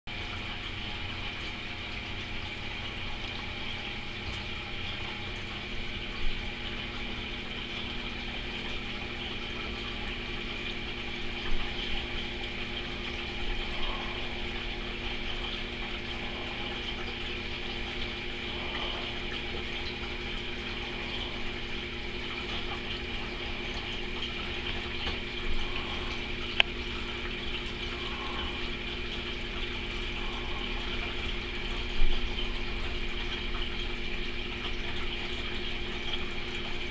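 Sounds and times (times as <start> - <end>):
aquarium pump motor hum: 0.1 - 36.9.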